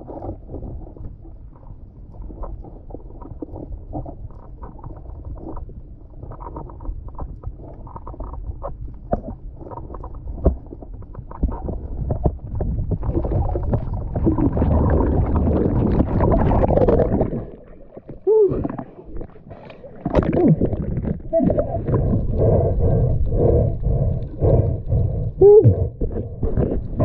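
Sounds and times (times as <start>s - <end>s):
low underwater rumble: 0.0s - 27.0s
muffled underwater clicks and knocks: 2.0s - 25.0s.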